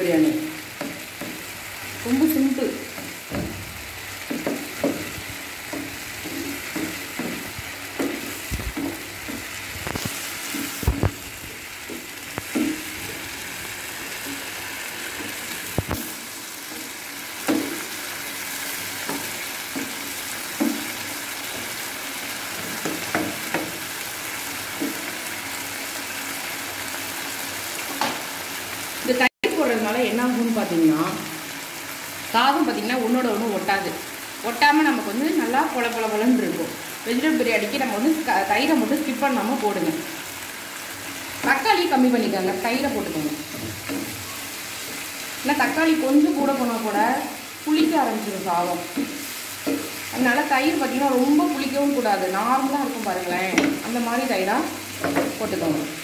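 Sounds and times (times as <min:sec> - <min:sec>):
vegetables sizzling in pan: 0:00.0 - 0:56.0.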